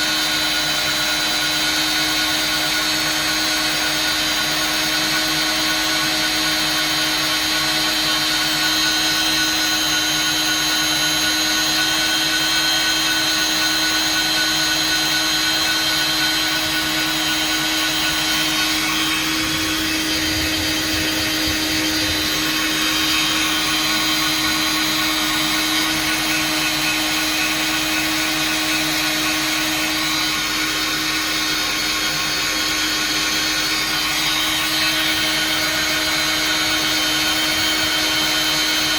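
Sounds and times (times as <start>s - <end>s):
electric motor whining and blowing: 0.0s - 38.9s.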